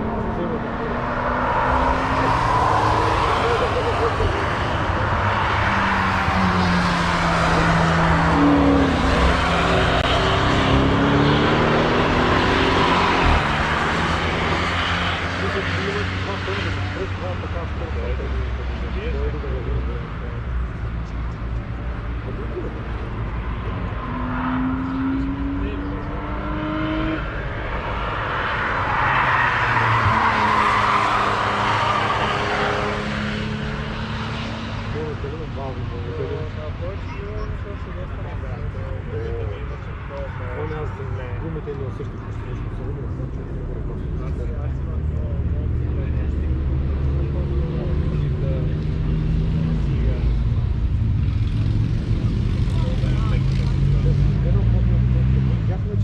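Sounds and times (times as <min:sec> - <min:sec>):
car engines passing: 0:00.0 - 0:56.0.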